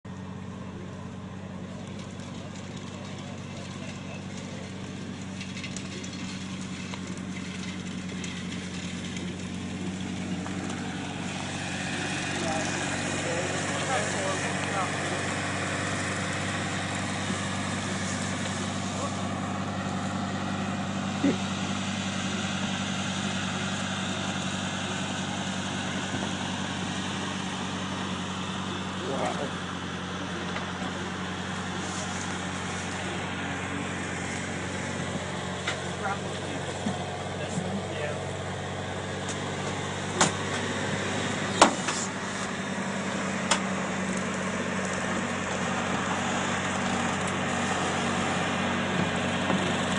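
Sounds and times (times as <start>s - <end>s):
wheelchair motors humming: 0.1s - 49.9s.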